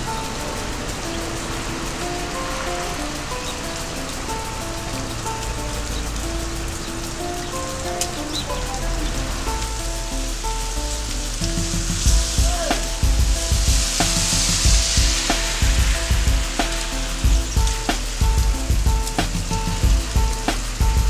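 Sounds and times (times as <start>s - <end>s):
music with held melody notes: 0.0s - 21.0s
rain hissing: 0.0s - 21.0s
heavy bass beat with percussion: 2.3s - 21.0s.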